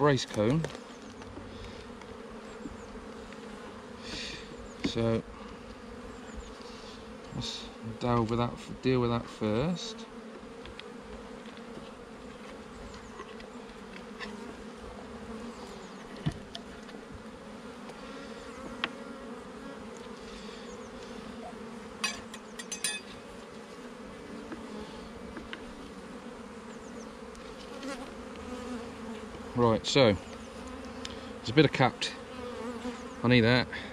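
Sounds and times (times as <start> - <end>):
bees humming: 0.0 - 33.9.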